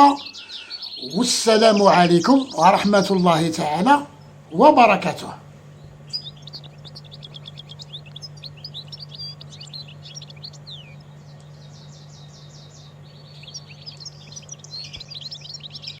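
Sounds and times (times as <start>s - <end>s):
finch twittering song: 0.0s - 16.0s
steady low hum: 0.0s - 16.0s.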